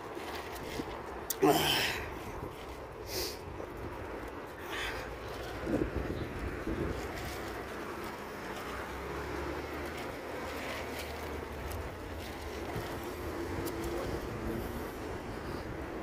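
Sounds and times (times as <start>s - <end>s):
faint engine hum: 0.0s - 16.0s
low rumble of road traffic: 0.0s - 16.0s.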